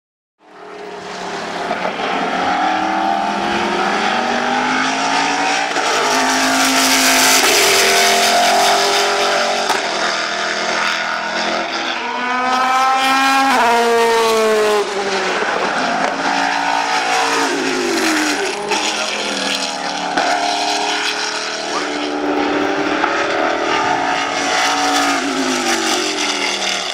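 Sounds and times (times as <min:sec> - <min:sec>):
race car engine at speed: 0:00.4 - 0:26.9.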